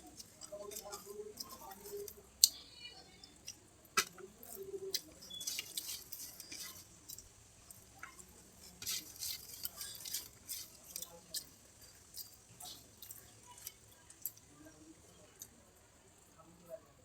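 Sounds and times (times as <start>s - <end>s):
person chewing food: 0.0s - 14.5s.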